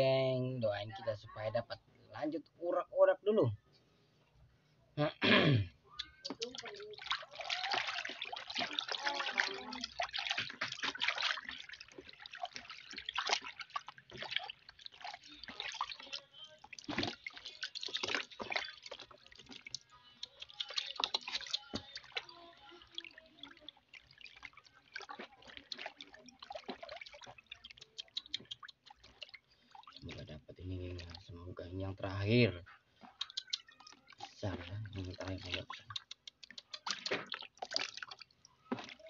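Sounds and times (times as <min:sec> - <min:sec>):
water splashing and gurgling: 0:06.0 - 0:39.0.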